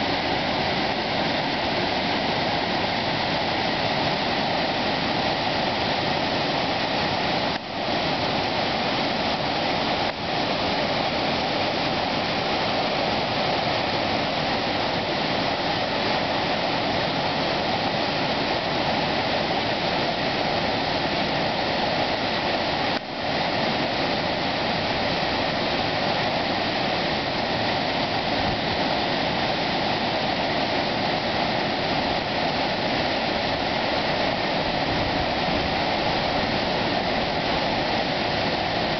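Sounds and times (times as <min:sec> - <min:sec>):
whitewater rushing over rocks: 0:00.0 - 0:38.9.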